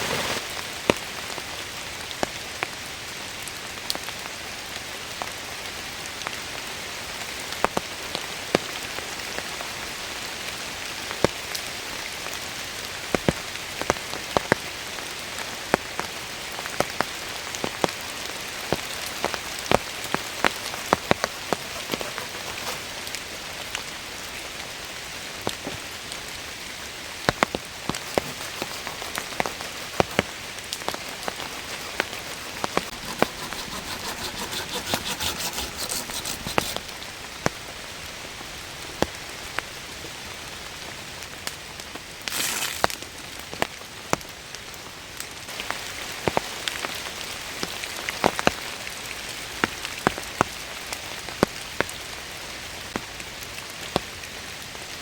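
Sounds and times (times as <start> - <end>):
steady rain hiss: 0.0 - 33.0, 36.8 - 55.0.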